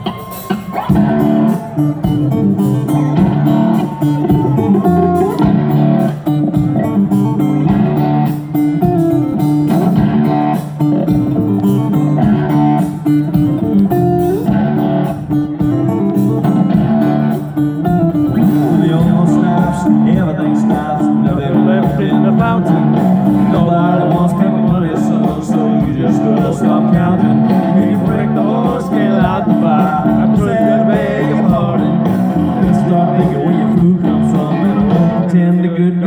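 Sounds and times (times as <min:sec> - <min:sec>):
country band playing: 0:00.0 - 0:36.0
electric guitar: 0:00.0 - 0:36.0
upright bass: 0:00.0 - 0:36.0.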